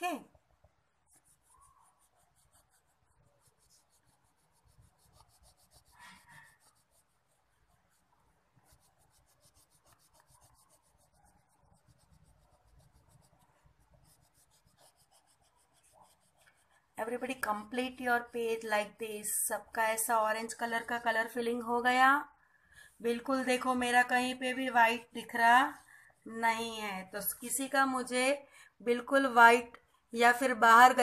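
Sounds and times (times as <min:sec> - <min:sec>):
crayon scratching on paper: 0:01.0 - 0:21.9, 0:23.3 - 0:27.7.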